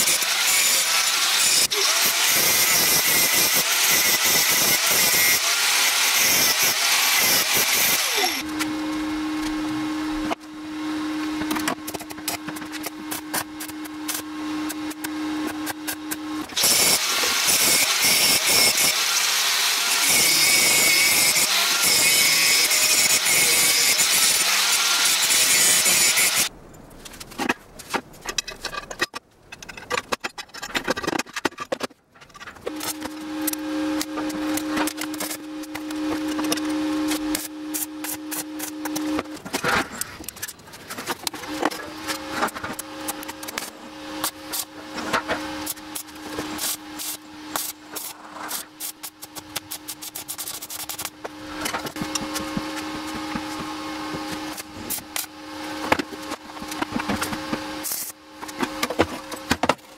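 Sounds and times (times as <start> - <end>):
angle grinder cutting steel: 0.0 - 10.3, 11.2 - 26.5, 32.7 - 39.4, 41.2 - 58.9.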